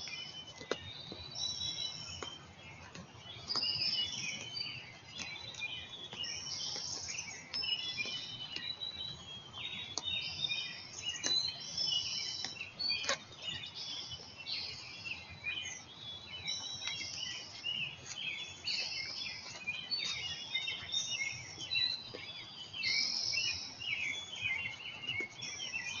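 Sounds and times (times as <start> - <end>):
birds singing and chirping: 0.0 - 26.0.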